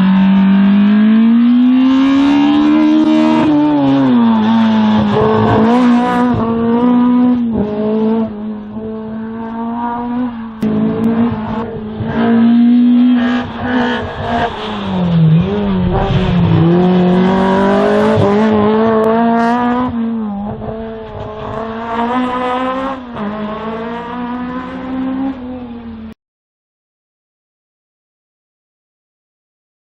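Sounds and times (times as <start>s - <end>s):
race car engine revving: 0.0s - 26.2s.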